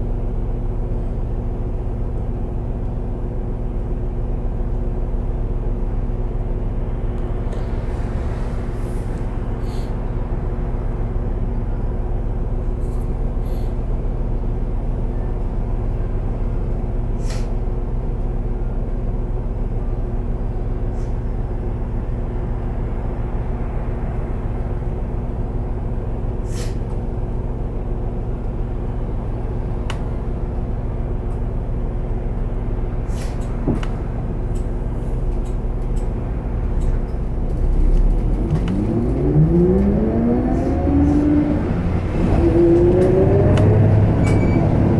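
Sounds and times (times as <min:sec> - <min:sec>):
bus engine drone: 0:00.0 - 0:44.9.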